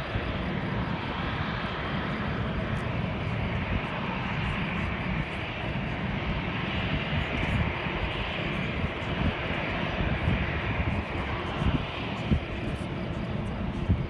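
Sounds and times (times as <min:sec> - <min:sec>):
jet engines rumbling with hiss: 0:00.0 - 0:14.0.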